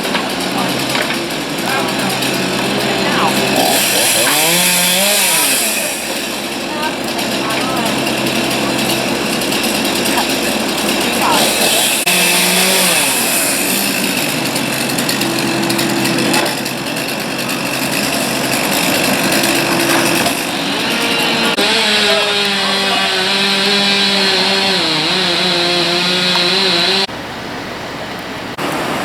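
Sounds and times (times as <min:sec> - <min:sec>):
chainsaw engine running: 0:00.0 - 0:27.1.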